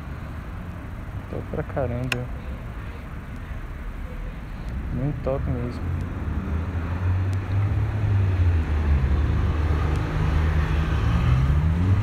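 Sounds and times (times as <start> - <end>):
street traffic noise: 0.0 - 12.0
vehicle engine humming: 0.0 - 12.0.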